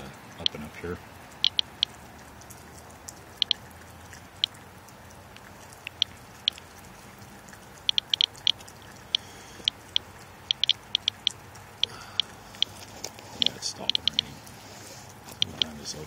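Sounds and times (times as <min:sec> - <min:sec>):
geiger counter clicks: 0:00.0 - 0:00.7, 0:01.3 - 0:14.4, 0:15.3 - 0:16.0.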